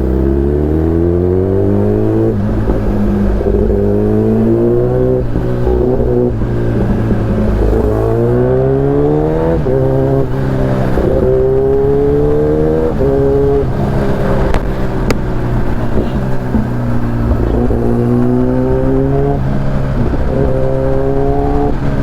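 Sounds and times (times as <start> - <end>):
motorcycle engine revving through gears: 0.0 - 22.0.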